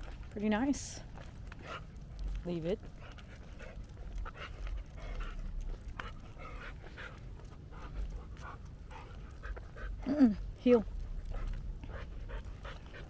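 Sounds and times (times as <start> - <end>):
dog panting: 0.0 - 13.0
low steady rumble: 0.0 - 13.0.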